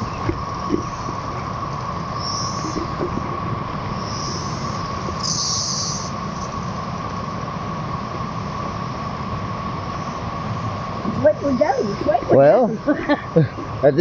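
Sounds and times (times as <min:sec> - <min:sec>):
cicadas singing: 0:00.0 - 0:14.0
river roaring: 0:00.0 - 0:14.0.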